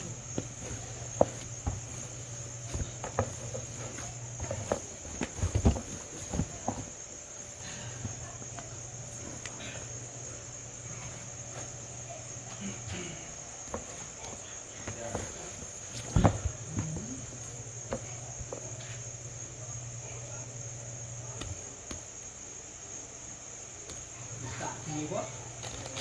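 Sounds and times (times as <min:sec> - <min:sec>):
crickets chirring: 0:00.0 - 0:26.0
low steady hum: 0:00.0 - 0:26.0.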